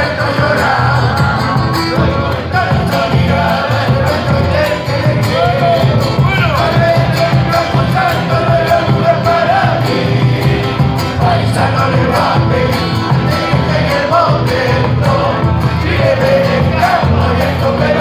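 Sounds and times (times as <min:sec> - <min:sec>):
guitars: 0:00.0 - 0:18.0
steady drum beat: 0:00.0 - 0:18.0
voices singing together: 0:00.0 - 0:18.0.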